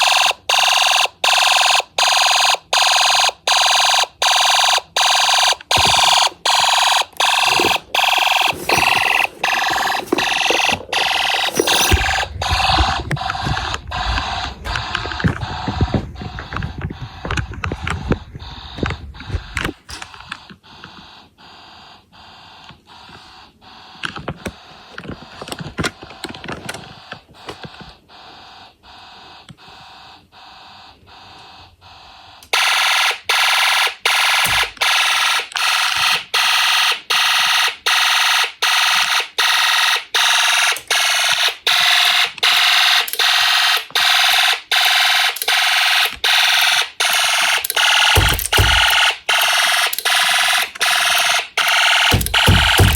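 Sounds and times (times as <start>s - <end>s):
fire alarm horn pulsing: 0.0s - 19.3s, 29.0s - 52.9s.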